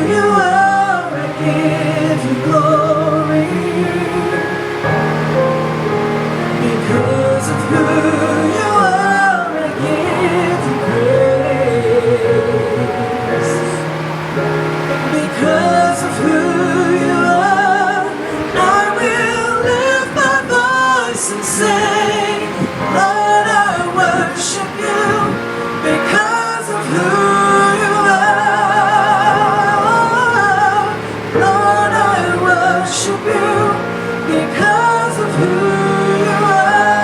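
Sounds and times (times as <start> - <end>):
woman singing with vibrato: 0.0 - 4.8, 6.6 - 13.9, 15.0 - 37.0
gospel music accompaniment: 0.0 - 37.0.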